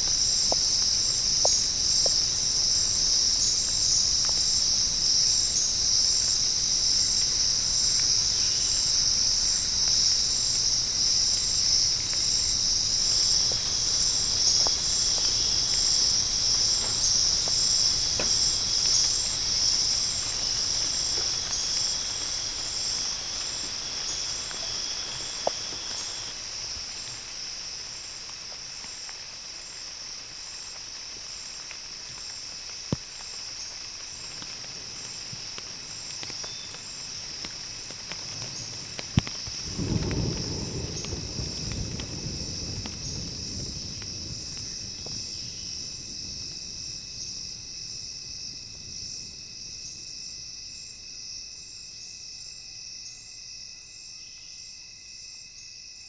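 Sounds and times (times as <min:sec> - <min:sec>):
insect chorus shrill: 0:00.0 - 0:49.2, 0:49.8 - 0:56.0.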